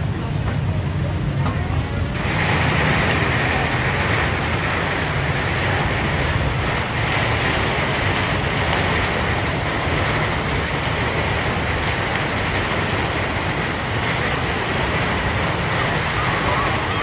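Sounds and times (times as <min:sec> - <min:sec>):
rushing street noise: 0:00.0 - 0:17.0.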